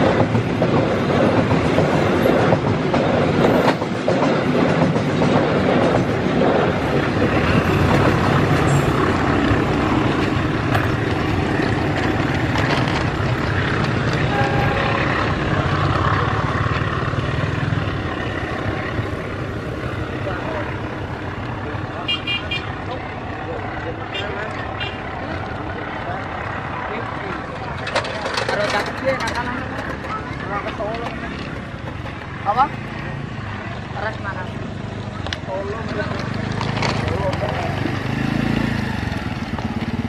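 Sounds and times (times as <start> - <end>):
train wheels clattering on rails: 0.0 - 22.0, 22.6 - 33.6, 34.9 - 40.0.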